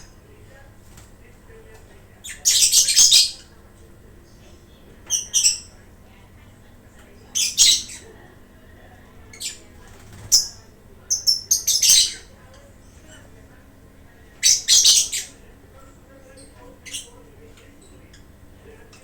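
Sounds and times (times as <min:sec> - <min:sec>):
lovebirds squawking: 0:02.0 - 0:03.7, 0:04.3 - 0:19.0.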